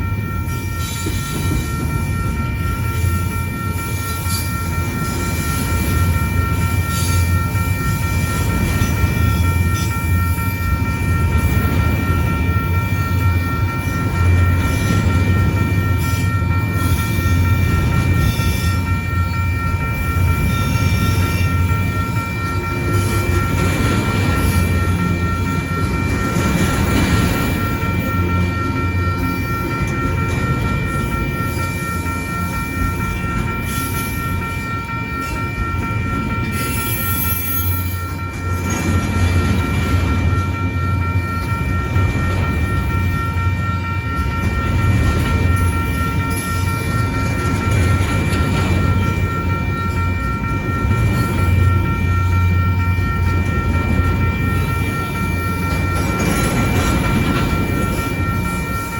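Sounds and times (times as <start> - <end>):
steady high tones: 0.0 - 58.9
train running noise: 0.0 - 58.9.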